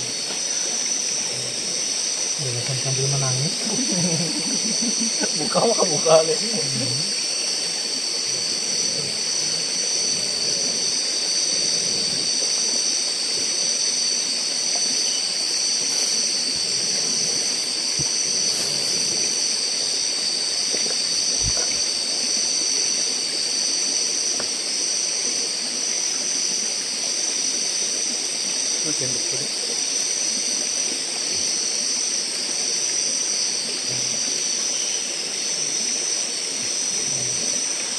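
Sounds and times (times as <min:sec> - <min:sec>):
chorus of forest insects: 0:00.0 - 0:37.9
constant hiss: 0:00.0 - 0:37.9.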